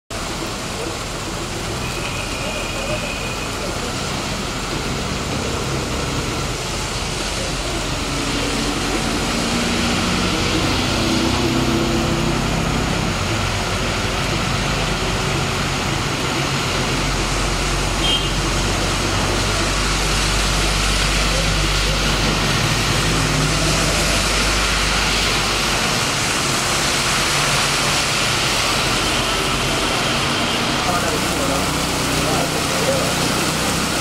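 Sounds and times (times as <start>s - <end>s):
heavy rain: 0.1s - 34.0s
heavy vehicle engine running: 0.1s - 34.0s
tyres on flooded road: 0.1s - 34.0s.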